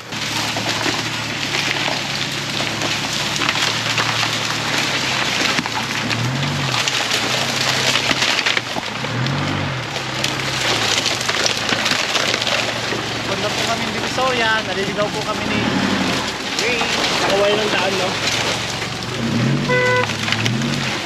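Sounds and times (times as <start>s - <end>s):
truck engine hum: 0.0s - 21.0s
tyres crackling over dry bamboo: 0.0s - 21.0s.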